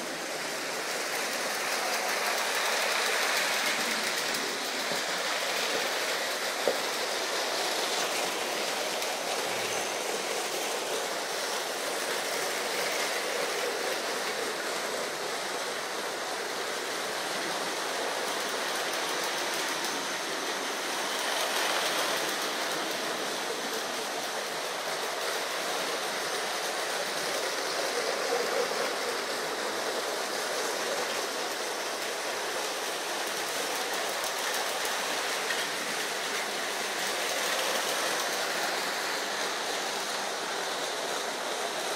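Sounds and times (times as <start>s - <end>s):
toy trains rolling on plastic track: 0.0s - 41.9s.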